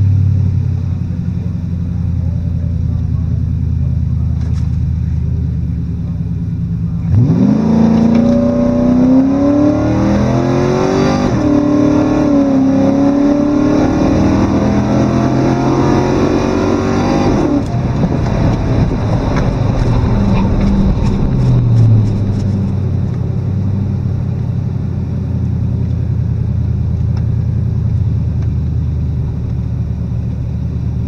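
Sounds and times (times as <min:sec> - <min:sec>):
car engine at full throttle: 0:00.0 - 0:31.0.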